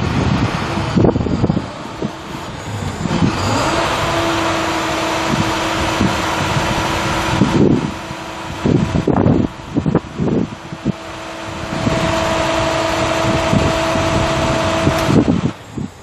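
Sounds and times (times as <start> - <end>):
diesel truck engine running: 0.0 - 16.0
steady whine: 0.0 - 16.0
wind buffeting microphone: 0.0 - 16.0.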